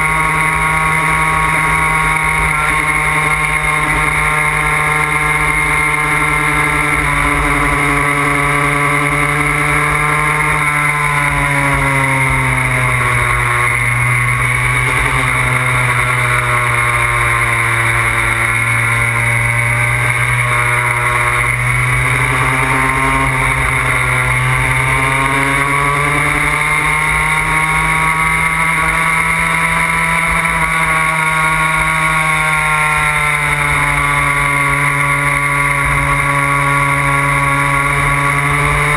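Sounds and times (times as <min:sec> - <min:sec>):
two-stroke moped engine running: 0:00.0 - 0:38.9.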